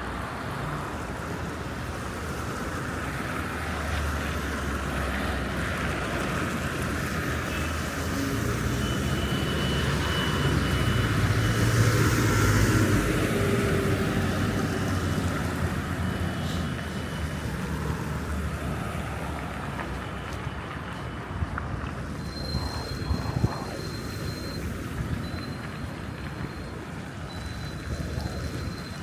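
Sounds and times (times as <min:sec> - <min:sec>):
passing vehicles rumble: 0:00.0 - 0:29.0.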